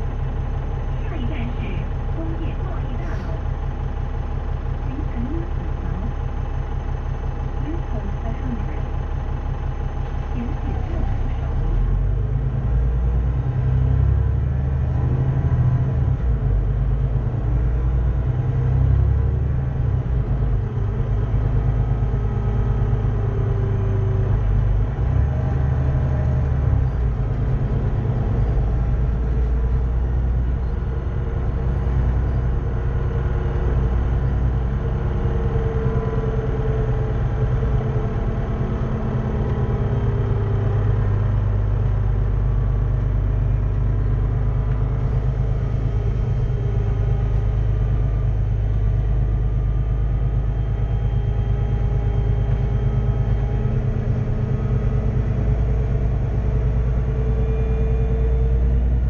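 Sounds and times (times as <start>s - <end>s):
diesel bus engine rumbling: 0.0s - 59.0s.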